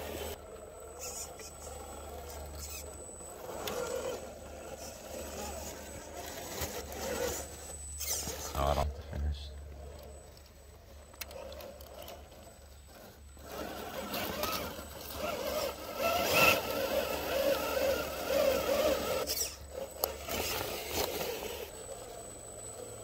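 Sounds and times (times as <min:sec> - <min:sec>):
tyres grinding over rocks: 0:00.0 - 0:08.8, 0:09.7 - 0:22.8
small electric motor whining: 0:00.0 - 0:23.0.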